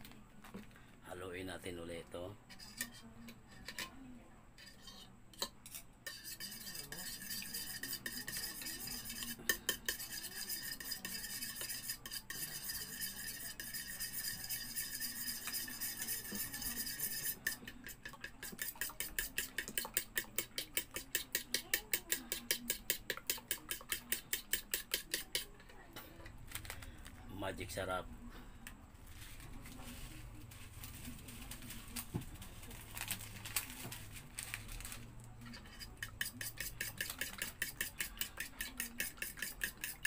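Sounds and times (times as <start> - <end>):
plastic spoon beating egg in bowl: 4.6 - 27.0, 29.4 - 40.0.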